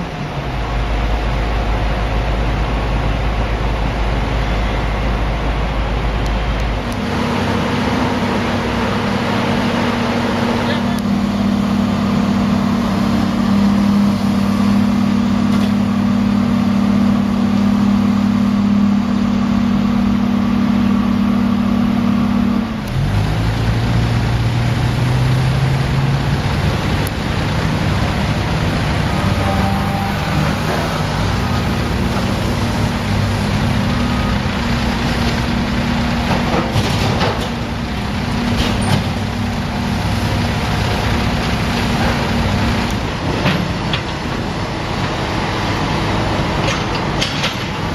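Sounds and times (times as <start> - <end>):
large engine running: 0.0 - 47.9.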